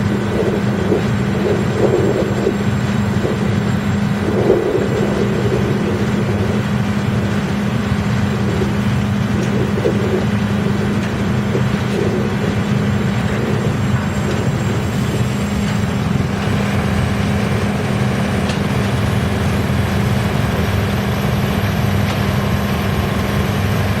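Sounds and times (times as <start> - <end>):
wood chipper running: 0.0 - 24.0.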